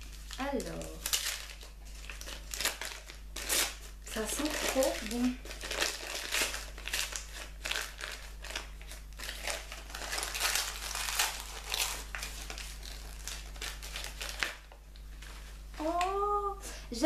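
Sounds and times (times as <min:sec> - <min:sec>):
wrapping paper crinkling: 0:00.0 - 0:16.7.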